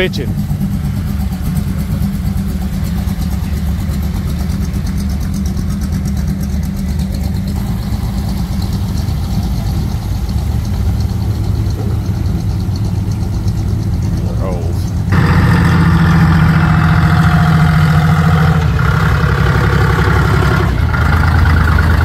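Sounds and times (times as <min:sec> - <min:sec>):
car engines rumbling: 0:00.0 - 0:22.0
engine loping idle: 0:00.0 - 0:22.0.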